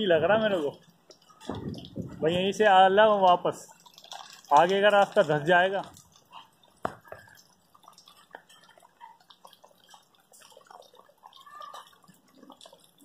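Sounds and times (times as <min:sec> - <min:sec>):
water dripping into water: 0:00.0 - 0:13.0.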